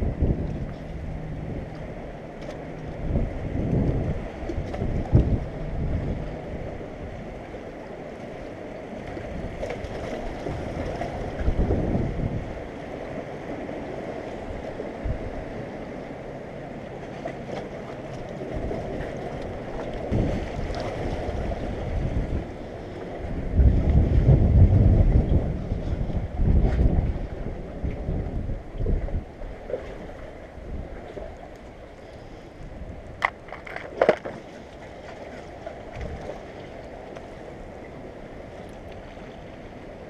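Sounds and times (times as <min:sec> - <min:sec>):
wind buffeting microphone: 0:00.0 - 0:07.7, 0:08.8 - 0:15.8, 0:18.4 - 0:39.9
sea washing against rocks: 0:00.0 - 0:16.0, 0:17.0 - 0:40.0.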